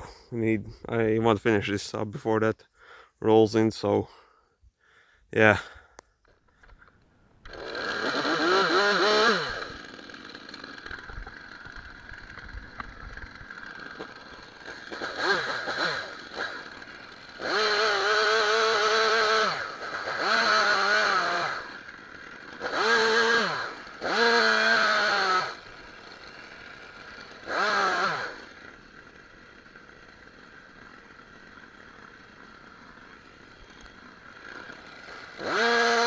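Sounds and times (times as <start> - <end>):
chainsaw revving: 5.4 - 36.0.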